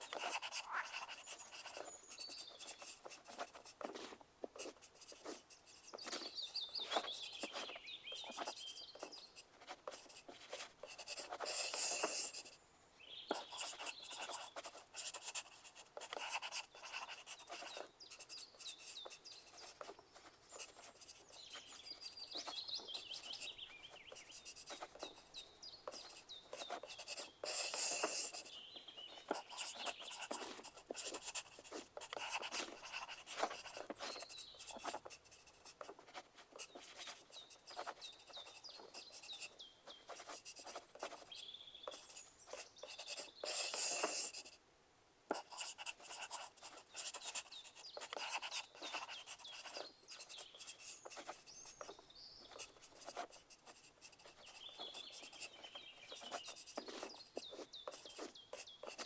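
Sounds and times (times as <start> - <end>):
pencils scratching on paper: 0.0 - 12.6, 13.3 - 44.6, 45.3 - 59.0.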